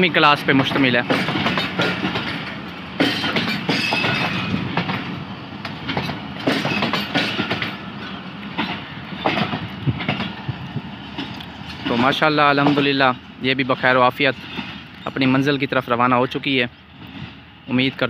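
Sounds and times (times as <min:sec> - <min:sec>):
train wheels clattering over joints: 0:00.0 - 0:15.6
train rumble: 0:00.0 - 0:18.0.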